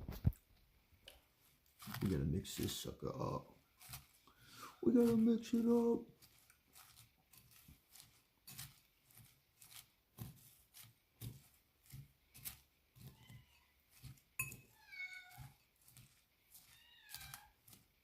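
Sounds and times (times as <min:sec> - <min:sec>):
salad tossed in a bowl: 0:01.0 - 0:03.0, 0:03.6 - 0:18.0.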